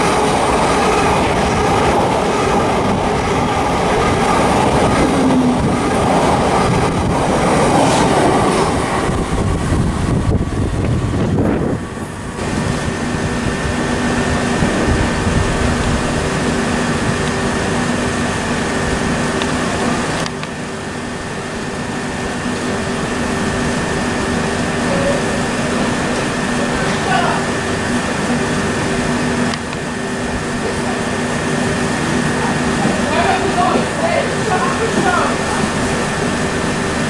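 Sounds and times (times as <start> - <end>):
electric train passing: 0.0 - 37.0.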